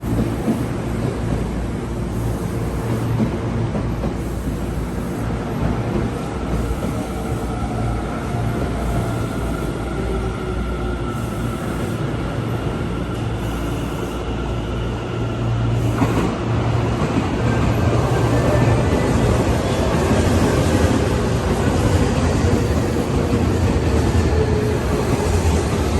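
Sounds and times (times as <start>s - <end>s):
electric train rumbling: 0.0s - 25.9s
faint train whine: 0.0s - 25.9s.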